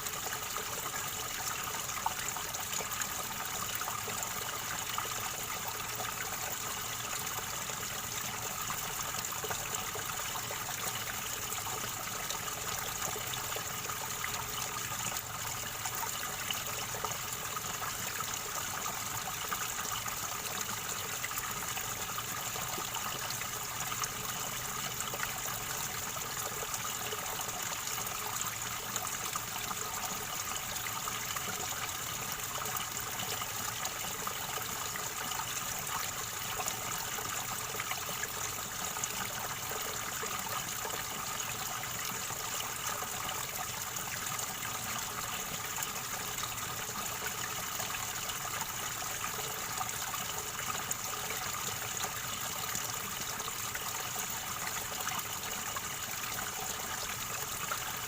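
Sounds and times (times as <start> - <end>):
river water gurgling: 0.0 - 58.0.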